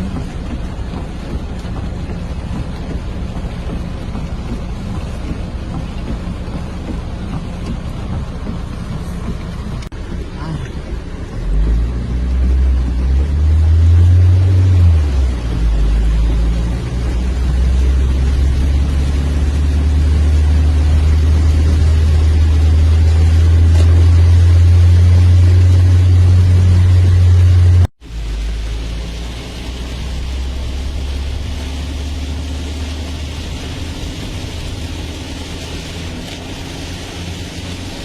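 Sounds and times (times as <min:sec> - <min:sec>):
vehicle engine droning: 0:00.0 - 0:38.0.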